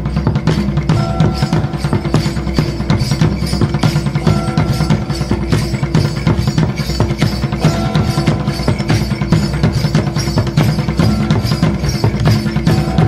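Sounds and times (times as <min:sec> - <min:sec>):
dance music with fast drumming: 0:00.0 - 0:13.0.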